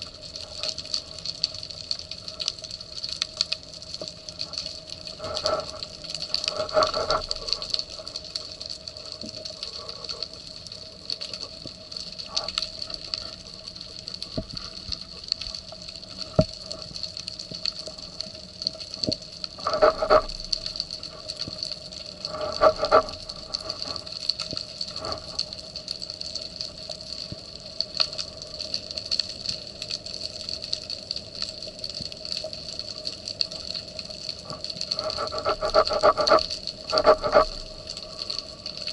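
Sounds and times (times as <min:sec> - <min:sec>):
steady hiss: 0:00.0 - 0:38.9
water noise swells: 0:00.0 - 0:38.9.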